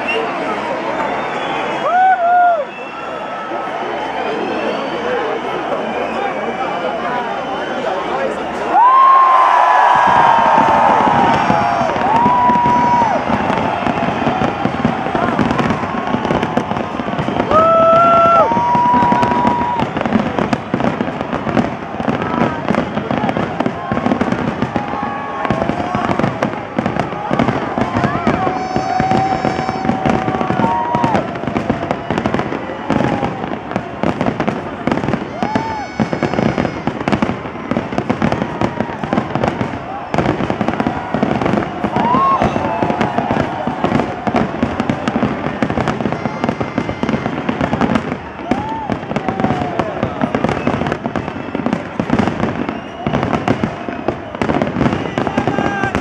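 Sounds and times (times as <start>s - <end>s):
fireworks crackling and banging: 7.5s - 56.0s.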